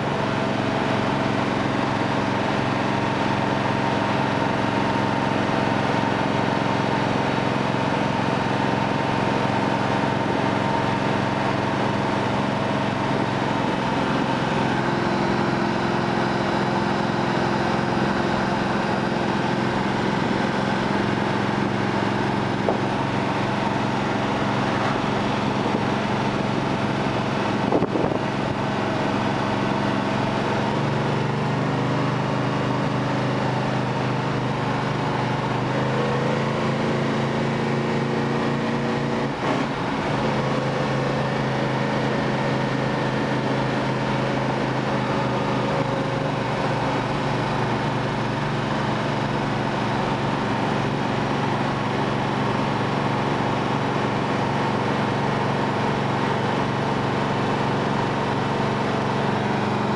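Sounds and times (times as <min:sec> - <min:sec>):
car engine cruising: 0:00.0 - 0:59.9
road and wind noise: 0:00.0 - 0:59.9.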